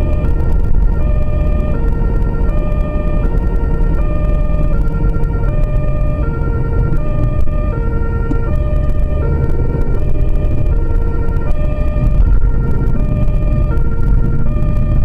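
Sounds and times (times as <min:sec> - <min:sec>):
engine and road rumble: 0:00.0 - 0:15.0
two-tone emergency siren: 0:00.0 - 0:15.0.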